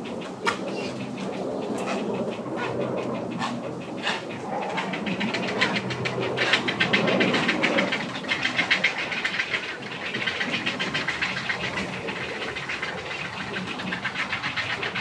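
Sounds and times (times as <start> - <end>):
heron chicks chattering calls: 0.0 - 15.0.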